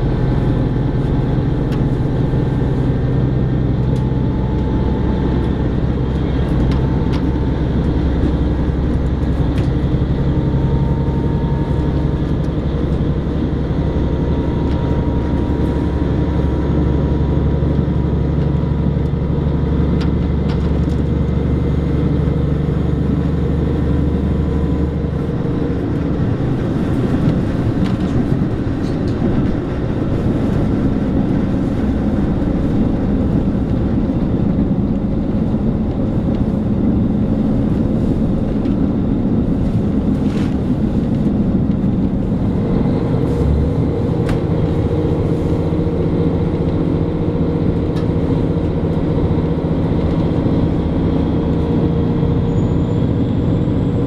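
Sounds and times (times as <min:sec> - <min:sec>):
train engine drone: 0:00.0 - 0:54.0
wheels rumbling on rail: 0:00.0 - 0:54.0.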